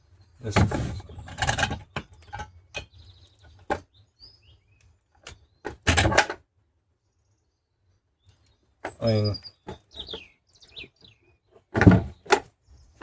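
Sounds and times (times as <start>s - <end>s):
bird chirping: 0.0s - 5.8s, 7.0s - 13.0s.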